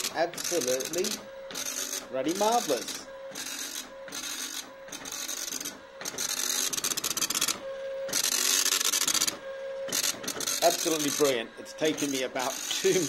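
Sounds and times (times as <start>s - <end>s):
teleprinter print head printing: 0.0s - 13.0s.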